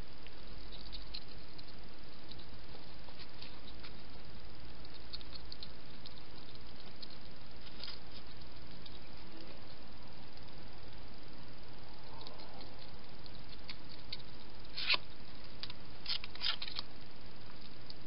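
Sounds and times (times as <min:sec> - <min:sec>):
hedgehog chewing food: 0:00.0 - 0:18.0
microphone hiss: 0:00.0 - 0:18.0.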